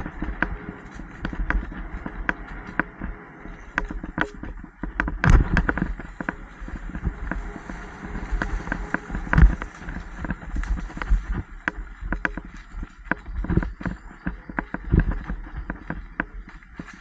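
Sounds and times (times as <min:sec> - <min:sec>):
bicycle rattling and clicking: 0:00.0 - 0:17.0
low rumble: 0:00.0 - 0:17.0.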